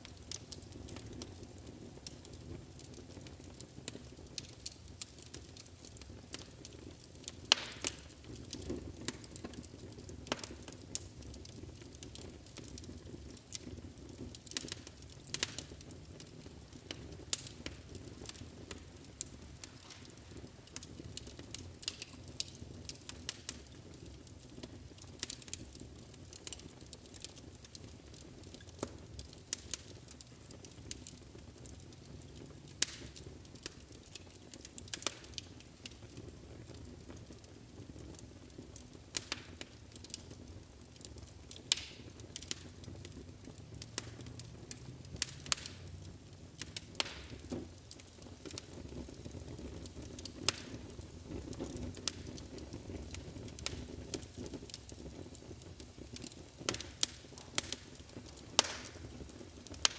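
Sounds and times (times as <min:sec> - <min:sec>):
fire flames rumbling: 0:00.0 - 0:59.9
logs crackling and popping: 0:00.0 - 0:59.9.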